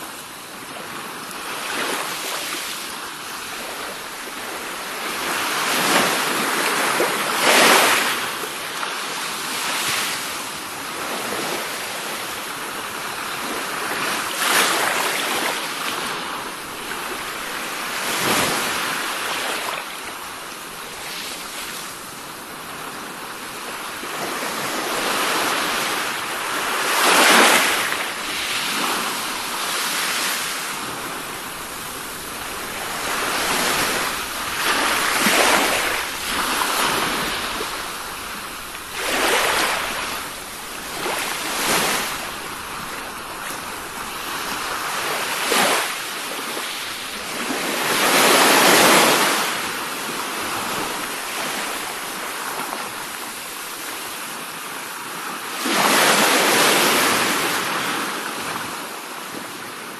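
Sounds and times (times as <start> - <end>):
waves rolling in: 0.0 - 59.9.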